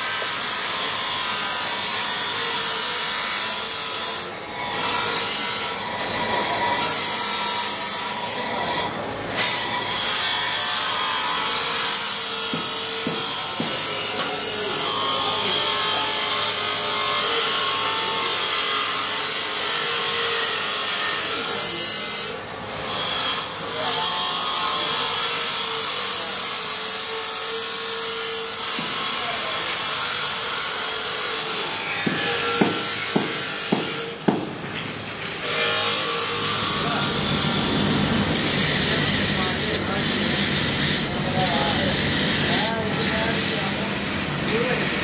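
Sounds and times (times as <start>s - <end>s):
tool grinding metal: 0.0s - 45.0s.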